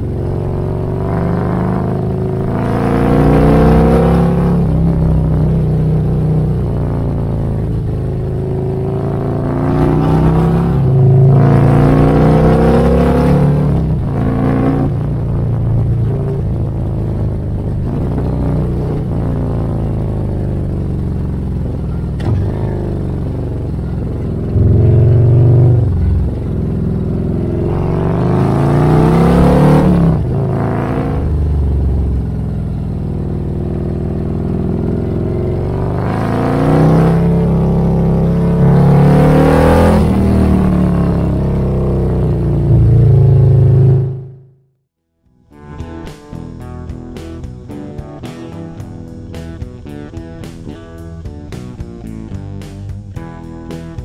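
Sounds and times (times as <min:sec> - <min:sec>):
motorcycle engine revving: 0:00.0 - 0:44.7, 0:45.5 - 0:54.0.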